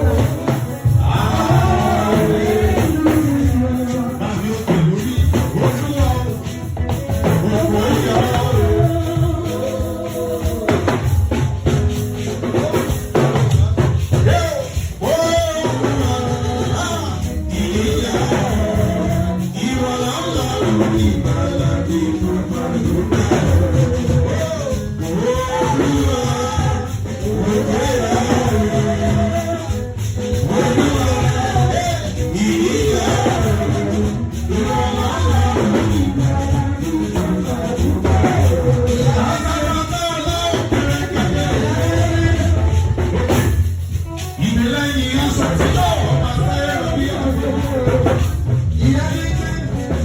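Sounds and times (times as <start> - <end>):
choir singing: 0.0 - 43.6, 44.4 - 50.0
band accompaniment: 0.0 - 50.0
drums and bass: 0.0 - 50.0.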